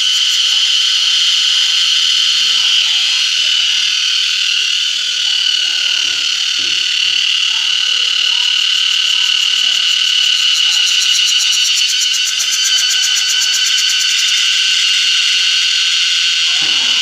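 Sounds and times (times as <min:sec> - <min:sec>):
cicadas buzzing: 0:00.0 - 0:17.0
fast pulsing insect rhythm: 0:00.0 - 0:17.0.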